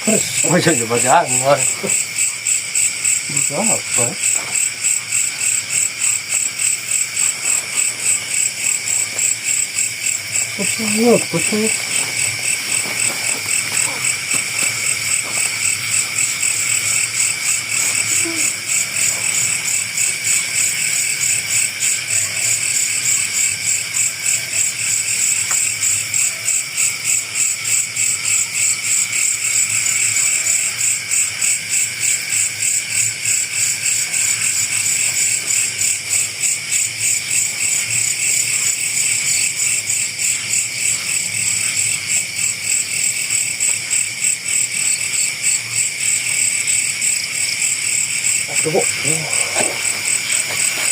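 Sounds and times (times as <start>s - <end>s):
insects chirping in chorus: 0.0s - 50.9s.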